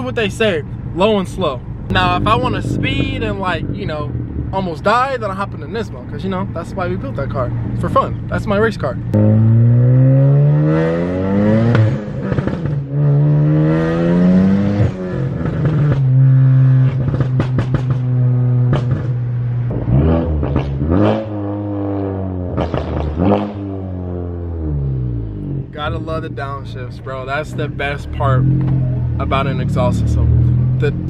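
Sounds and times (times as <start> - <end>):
car engine accelerating: 0.0 - 31.0
exhaust crackles: 0.0 - 31.0.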